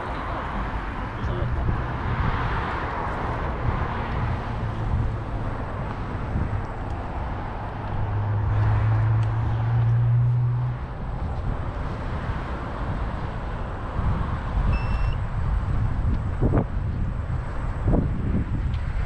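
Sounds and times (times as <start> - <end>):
rolling road noise: 0.0 - 19.0
wind rushing over microphone: 0.0 - 19.0.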